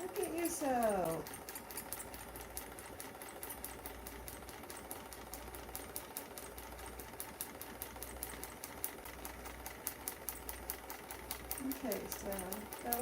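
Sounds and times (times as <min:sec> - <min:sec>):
sewing machine motor hum: 0:00.0 - 0:13.0
sewing machine needle clicking: 0:00.0 - 0:13.0.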